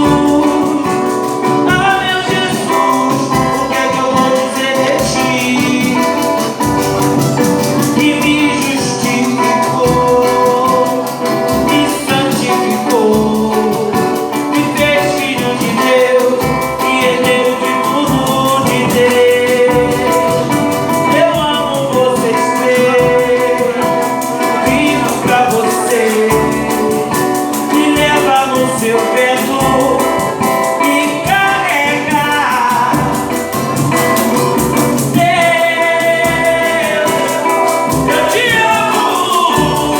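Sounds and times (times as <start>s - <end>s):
gospel group singing: 0.0s - 39.9s
instrumental accompaniment with beat: 0.0s - 39.9s.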